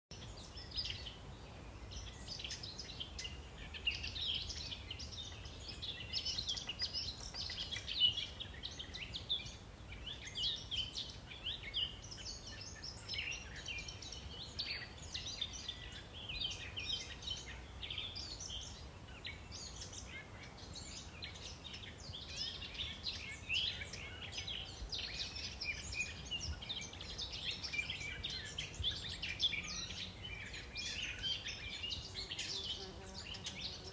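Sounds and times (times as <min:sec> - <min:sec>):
birds chirping and twittering: 0:00.1 - 0:33.9.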